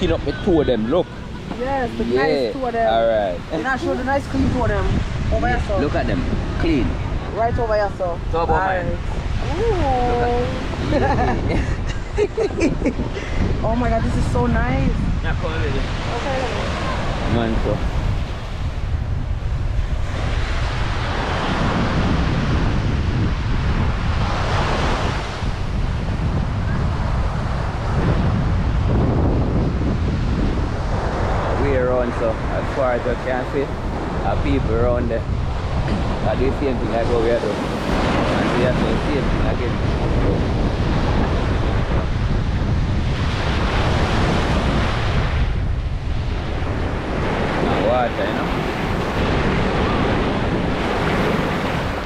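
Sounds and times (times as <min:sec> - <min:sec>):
ocean surf washing on beach: 0:00.0 - 0:52.0
wind rumbling on microphone: 0:00.0 - 0:52.0.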